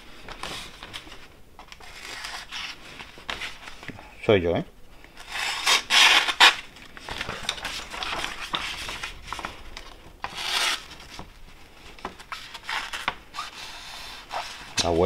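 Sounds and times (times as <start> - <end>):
paper rustling and crinkling: 0.2 - 4.0, 5.1 - 15.0.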